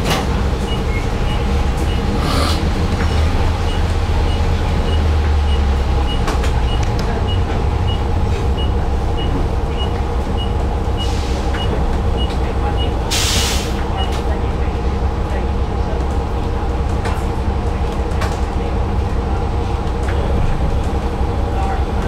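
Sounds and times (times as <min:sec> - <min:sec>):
bus rumble and electric hum: 0:00.0 - 0:22.0.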